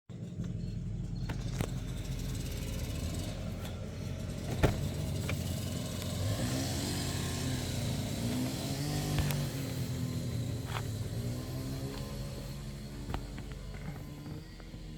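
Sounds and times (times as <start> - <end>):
car engine idling roughly: 0.1 - 14.9.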